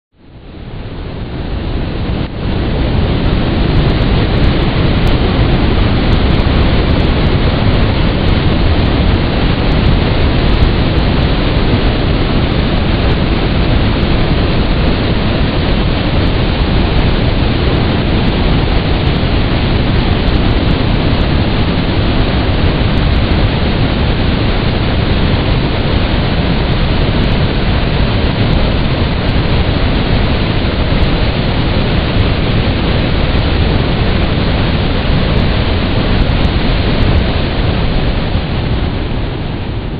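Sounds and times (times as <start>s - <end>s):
waterfall roaring: 0.3s - 39.9s.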